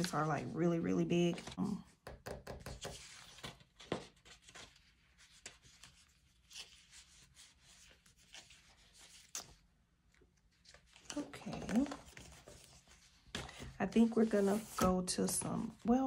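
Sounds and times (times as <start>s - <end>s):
paper pages rustling: 0.0s - 1.8s, 2.9s - 16.0s.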